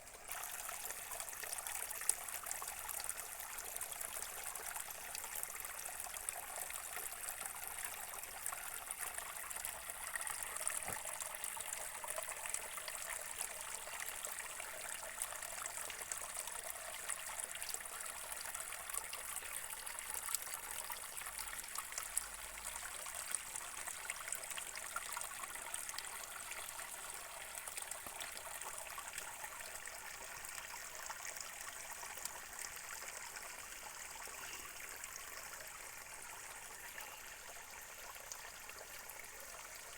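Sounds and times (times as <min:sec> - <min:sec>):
water drips and splashes: 0:00.0 - 0:39.9
water trickling in a stream: 0:00.0 - 0:39.9.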